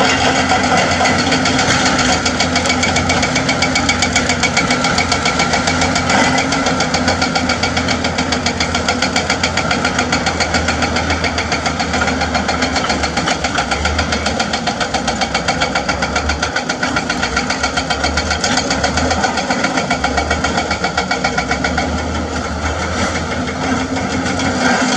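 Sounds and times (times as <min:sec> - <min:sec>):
excavator engine running: 0:00.0 - 0:24.9
hydraulic breaker hammering rock: 0:00.0 - 0:24.9.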